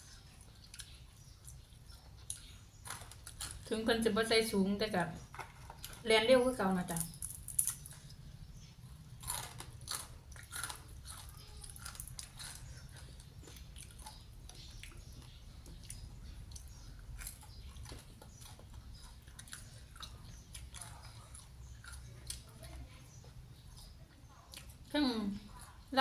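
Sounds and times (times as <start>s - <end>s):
person chewing food: 0.0s - 3.7s, 5.2s - 6.0s, 7.6s - 24.9s.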